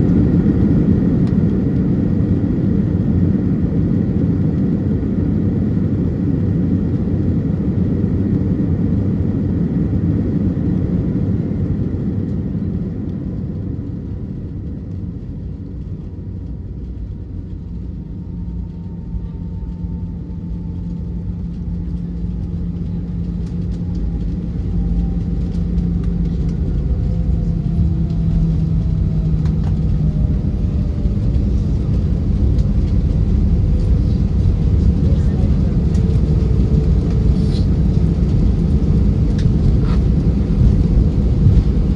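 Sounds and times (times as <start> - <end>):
aircraft engines and airflow rumble: 0.0 - 41.9.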